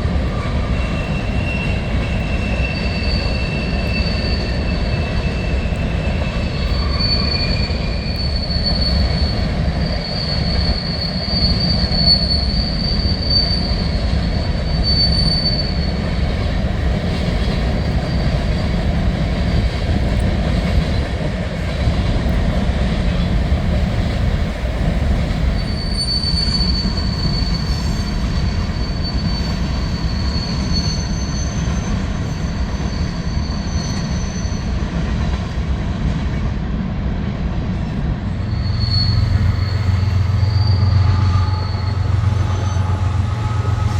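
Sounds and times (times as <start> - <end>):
freight train rumbling past: 0.0 - 43.9
train wheels squealing on rails: 0.0 - 43.9.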